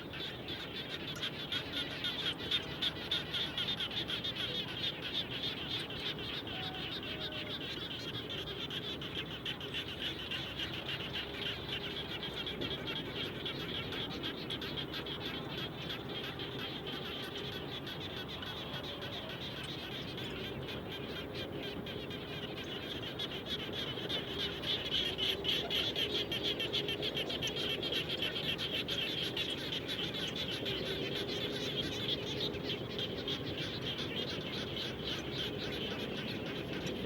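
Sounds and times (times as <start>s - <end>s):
chorus of frogs calling: 0.0s - 37.0s.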